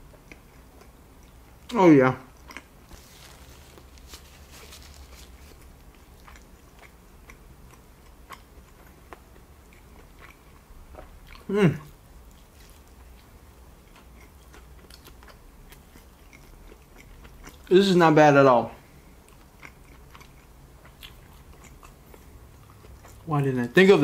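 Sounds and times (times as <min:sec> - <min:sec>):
person chewing wetly: 0:00.0 - 0:17.7, 0:18.8 - 0:23.4.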